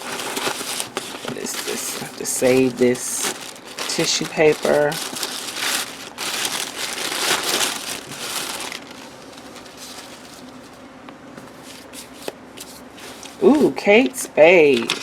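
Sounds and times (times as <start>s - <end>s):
tissue paper rustling and crinkling: 0.0s - 10.8s, 11.5s - 13.6s.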